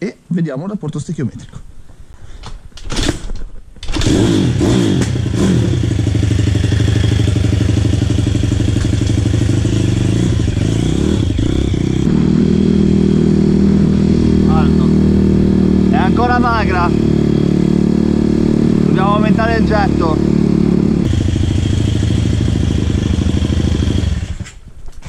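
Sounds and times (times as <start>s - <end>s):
motorbike engine running: 4.0s - 24.5s.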